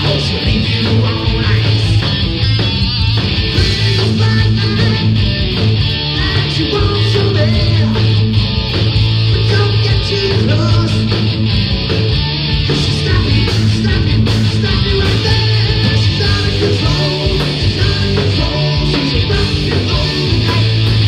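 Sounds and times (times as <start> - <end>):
drums: 0.0 - 21.0
electric guitar: 0.0 - 21.0.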